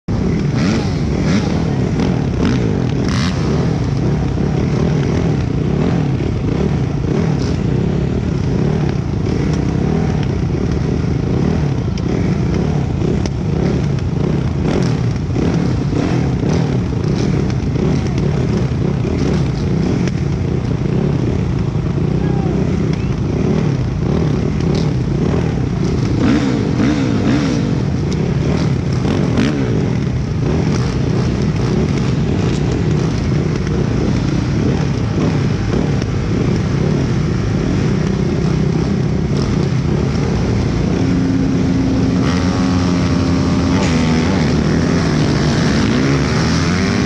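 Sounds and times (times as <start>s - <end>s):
motocross bikes running: 0.1s - 47.0s.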